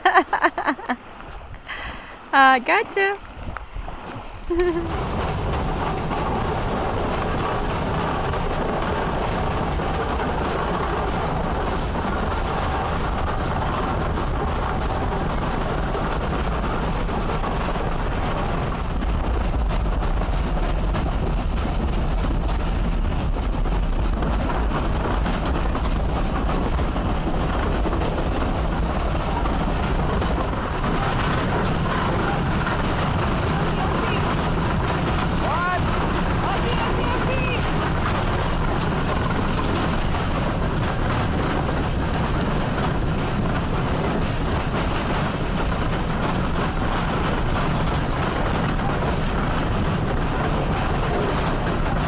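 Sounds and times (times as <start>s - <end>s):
train rumbling along track: 0.0s - 52.0s.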